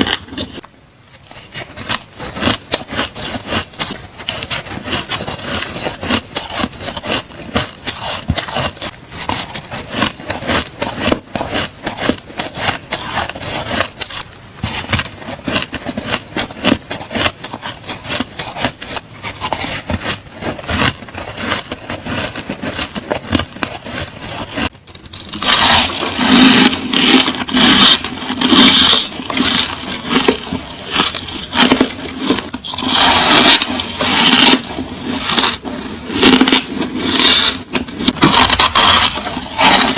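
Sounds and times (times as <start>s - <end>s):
ice crunching and cracking: 0.0s - 39.9s.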